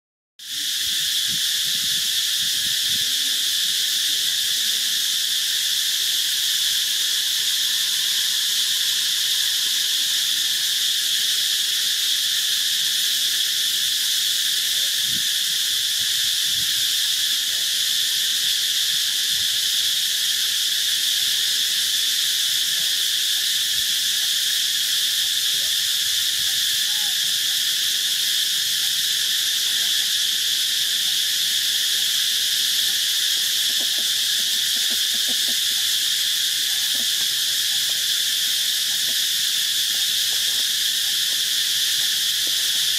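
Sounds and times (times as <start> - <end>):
high-pitched insect chorus: 0.4 - 42.9.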